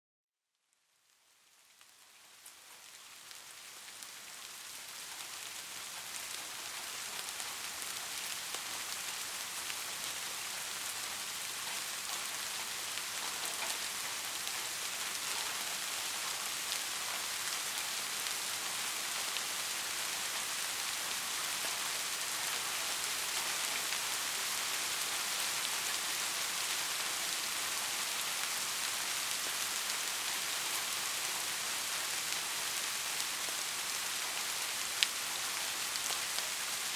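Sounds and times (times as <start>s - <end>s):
steady rain falling: 0.8s - 36.9s.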